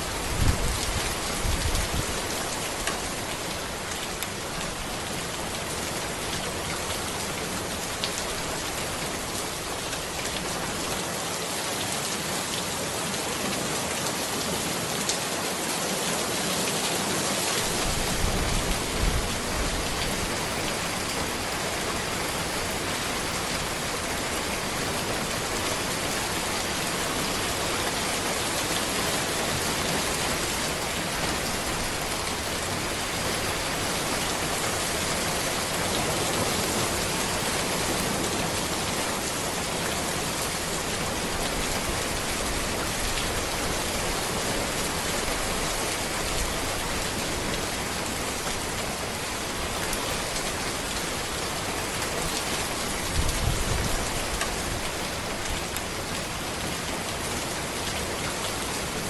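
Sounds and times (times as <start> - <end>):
heavy rain on road and trees: 0.0 - 59.0.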